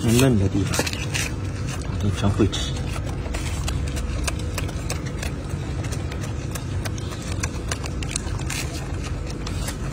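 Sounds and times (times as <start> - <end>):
low steady rumble: 0.0 - 9.9
monkey crunching lettuce: 0.0 - 9.9.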